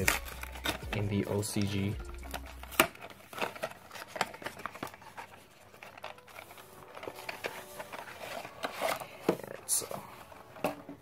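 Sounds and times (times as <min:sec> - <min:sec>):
hands handling cardboard and plastic: 0:00.0 - 0:11.0.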